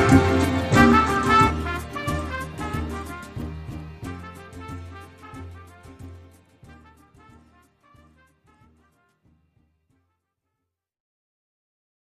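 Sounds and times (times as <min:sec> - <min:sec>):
instrumental music with brass: 0:00.0 - 0:10.3.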